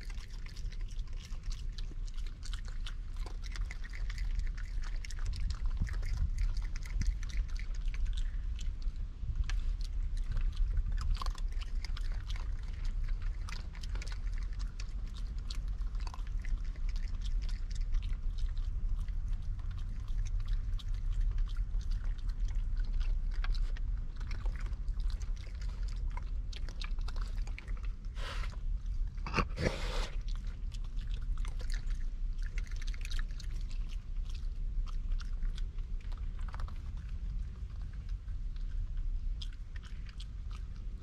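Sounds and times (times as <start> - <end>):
raccoons crunching peanuts: 0.0 - 41.0.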